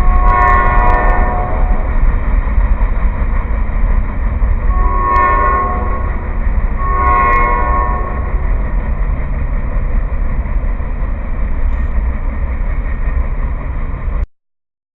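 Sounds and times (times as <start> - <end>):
freight train rumbling past: 0.0 - 14.3.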